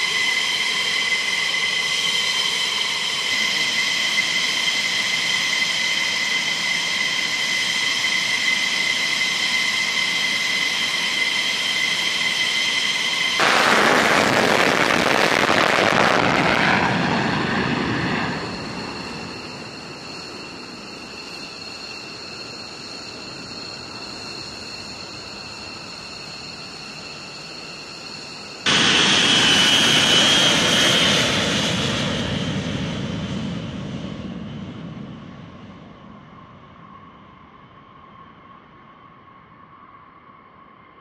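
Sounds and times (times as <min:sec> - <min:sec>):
jet fighter taking off: 0:00.0 - 0:36.5
bomber jet engines at takeoff: 0:00.0 - 0:39.6.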